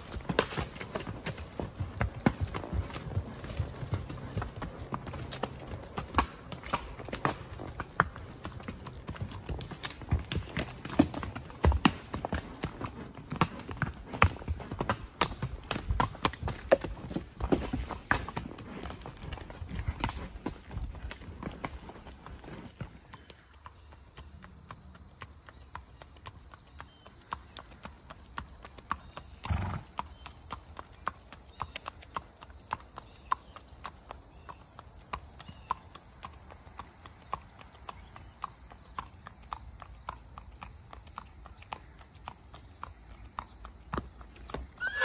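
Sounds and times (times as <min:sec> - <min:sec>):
horse hooves on asphalt: 0:00.0 - 0:45.0.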